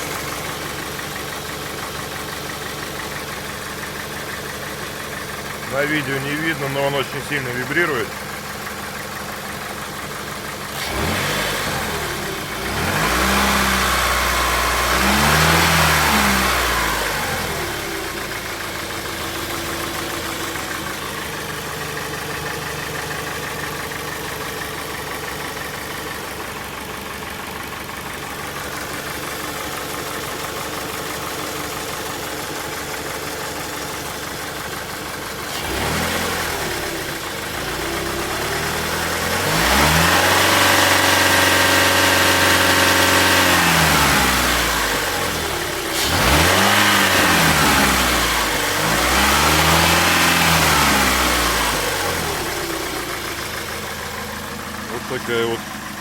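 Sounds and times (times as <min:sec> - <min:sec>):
car engine revving and idling: 0:00.0 - 0:56.0
engine knocking: 0:00.0 - 0:56.0.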